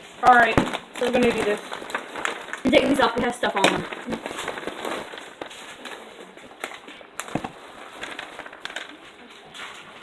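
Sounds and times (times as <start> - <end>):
snack bag crinkling: 0.2 - 9.9.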